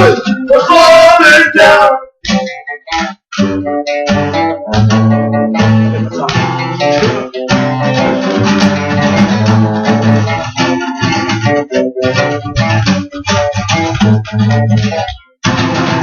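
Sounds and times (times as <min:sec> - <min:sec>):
guitar strumming chords: 0:00.0 - 0:16.0.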